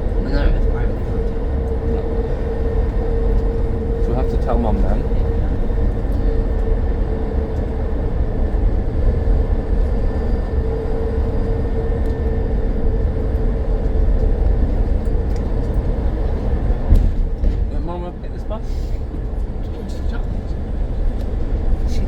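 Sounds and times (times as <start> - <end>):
tyre and road noise rumble: 0.0 - 22.0.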